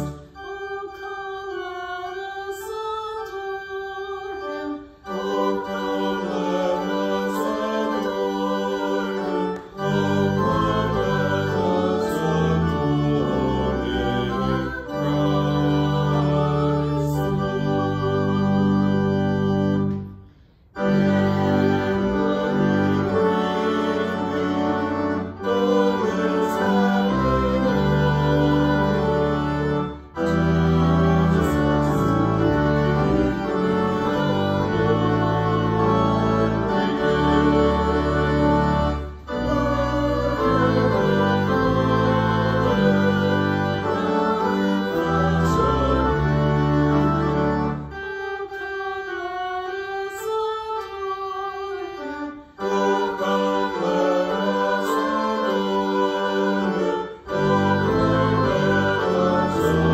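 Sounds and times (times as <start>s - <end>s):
organ playing hymn chords: 0.0s - 59.9s.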